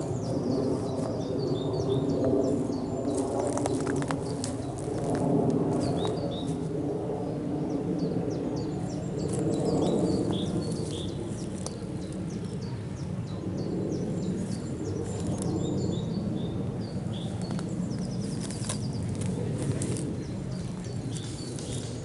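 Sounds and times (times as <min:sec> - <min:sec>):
small birds chirping: 0:00.0 - 0:06.6, 0:07.7 - 0:22.0.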